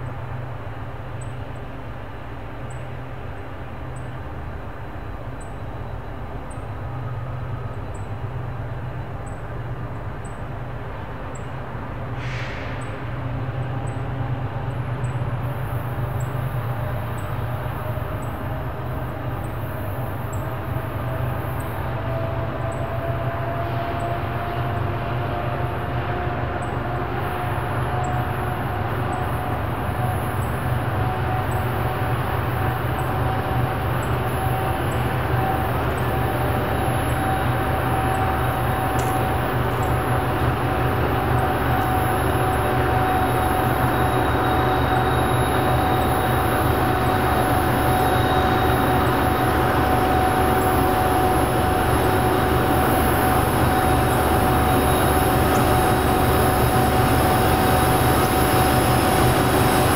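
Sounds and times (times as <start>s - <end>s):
diesel locomotive engine rumbling: 0.0s - 59.9s.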